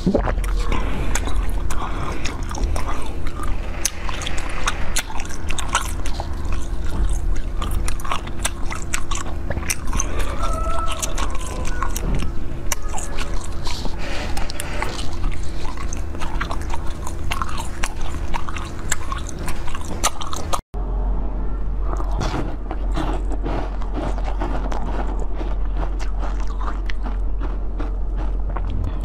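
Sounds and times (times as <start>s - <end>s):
biting and chewing sweets: 0.0s - 20.7s, 21.8s - 29.0s.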